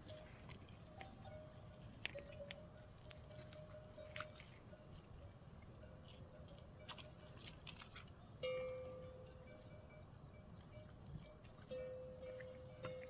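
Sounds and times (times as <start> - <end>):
faint bell-like ringing: 0.0 - 7.4, 8.2 - 13.0.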